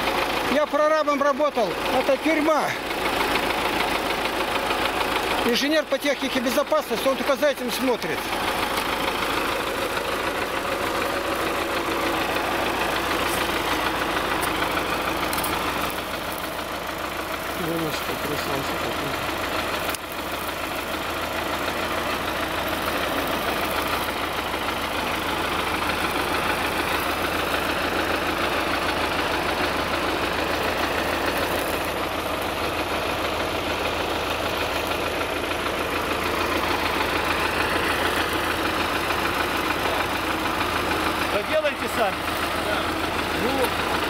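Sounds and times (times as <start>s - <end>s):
tractor diesel engine idling: 0.0s - 44.0s.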